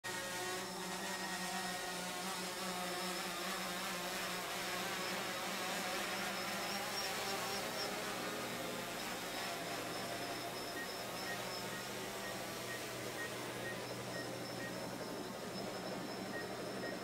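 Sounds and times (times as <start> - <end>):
drone propellers buzzing: 0.1 - 17.0.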